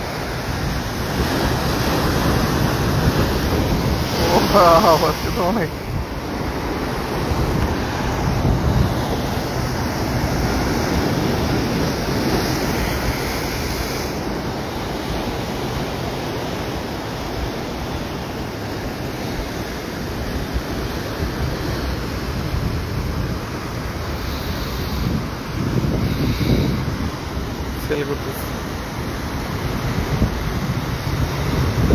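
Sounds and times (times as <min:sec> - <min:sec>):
ocean surf breaking on rocks: 0:00.0 - 0:31.9
wind buffeting microphone: 0:00.0 - 0:31.9.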